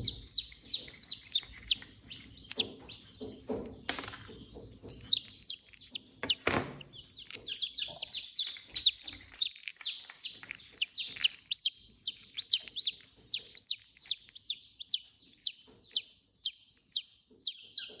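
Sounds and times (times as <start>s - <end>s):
chick peeping: 0.0s - 18.0s.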